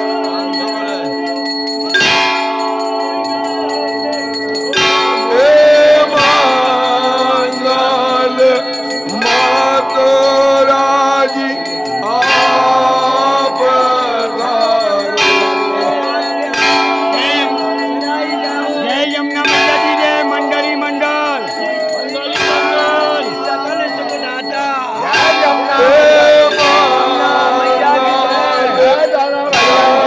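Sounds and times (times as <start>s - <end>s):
temple bells ringing: 0.0s - 30.0s
people chanting loudly: 4.7s - 30.0s.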